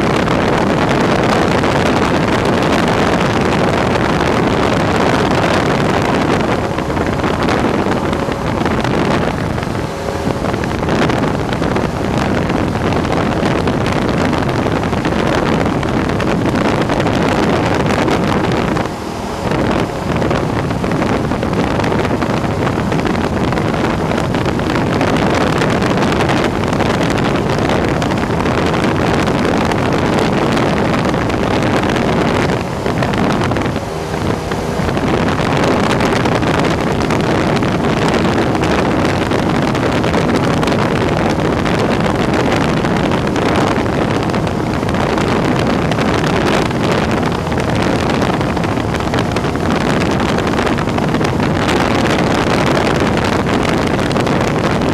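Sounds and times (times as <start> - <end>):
propeller plane engine droning: 0.0 - 54.9
rushing wind: 0.0 - 54.9.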